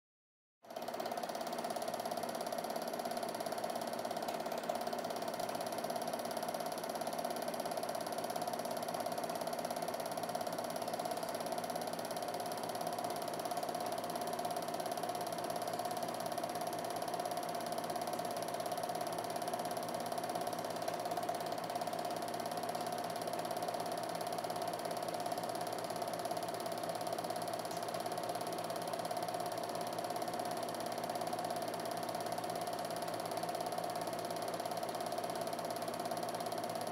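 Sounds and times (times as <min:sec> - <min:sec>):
film projector whirring: 0:00.6 - 0:36.9.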